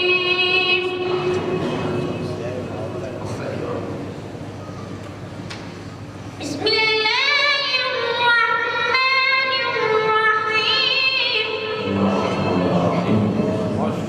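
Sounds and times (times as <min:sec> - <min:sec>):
background murmur: 0:00.0 - 0:14.0.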